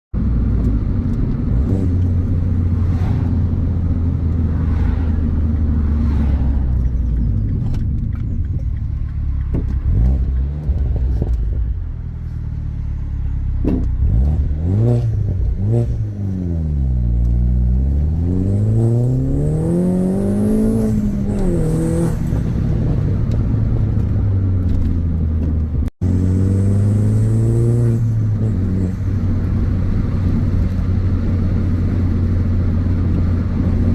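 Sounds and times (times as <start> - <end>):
car engine and exhaust revving: 0.2 - 33.9.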